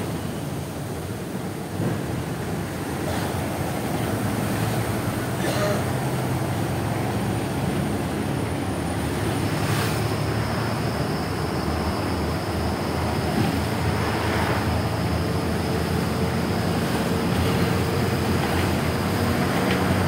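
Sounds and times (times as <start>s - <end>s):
road and wind noise: 0.0s - 20.0s
vehicle engine rumble: 0.0s - 20.0s.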